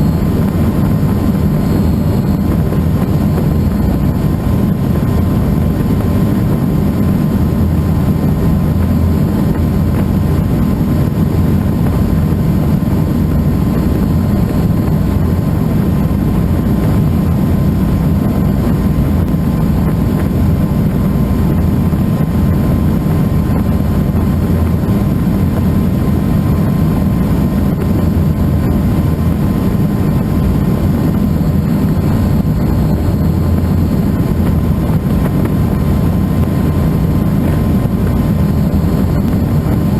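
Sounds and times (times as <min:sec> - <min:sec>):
helicopter rotor and engine drone: 0:00.0 - 0:39.9
thin steady whine: 0:00.0 - 0:39.9.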